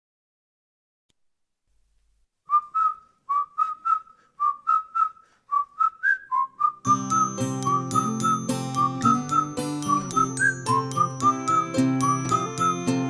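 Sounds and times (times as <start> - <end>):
whistled tune in pop song: 2.5 - 13.0.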